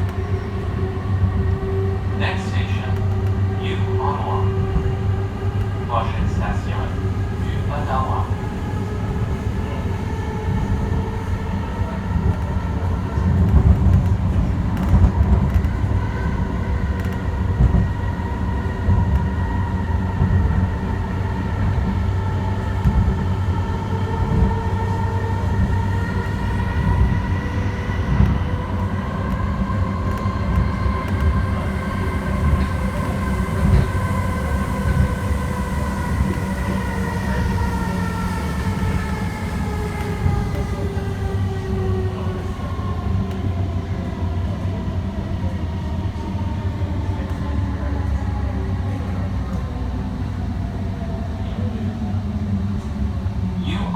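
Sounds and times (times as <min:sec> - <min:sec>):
train wheels rumbling on track: 0:00.0 - 0:53.9.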